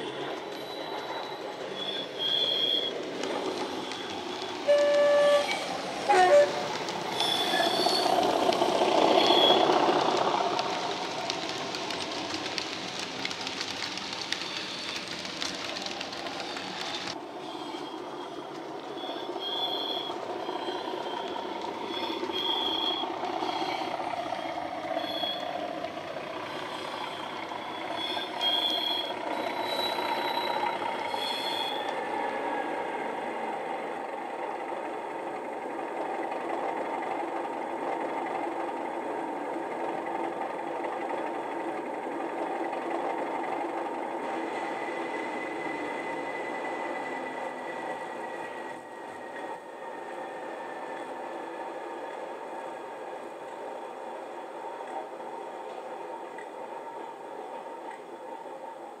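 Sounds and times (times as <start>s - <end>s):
model train rolling on track: 0.0s - 59.0s.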